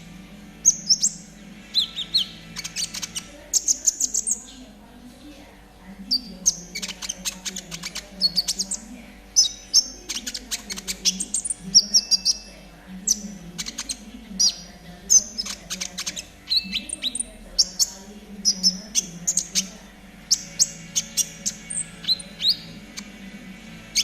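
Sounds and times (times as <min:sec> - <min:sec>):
low steady hum: 0:00.0 - 0:24.0
songbird clicking and whistling: 0:00.6 - 0:04.6, 0:06.1 - 0:24.0.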